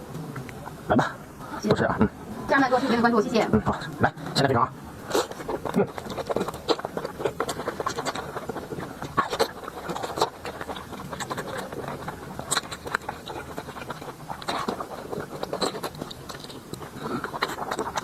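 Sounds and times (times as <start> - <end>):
mouth clicks: 0.0 - 2.2, 3.6 - 18.0
person chewing wetly: 3.6 - 18.0.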